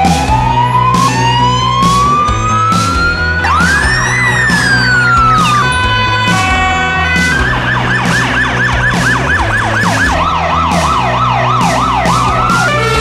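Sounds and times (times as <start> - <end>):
background music: 0.0 - 13.0
siren yelping: 0.0 - 13.0.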